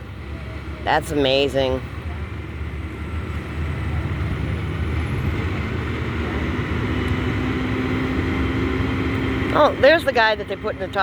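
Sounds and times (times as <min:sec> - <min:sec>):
crane diesel engine rumbling: 0:00.0 - 0:11.0.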